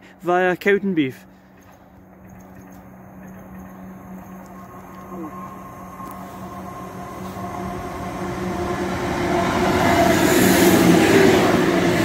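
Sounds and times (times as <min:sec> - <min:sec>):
steady low hum: 0:00.0 - 0:09.6
train passing: 0:00.0 - 0:12.0.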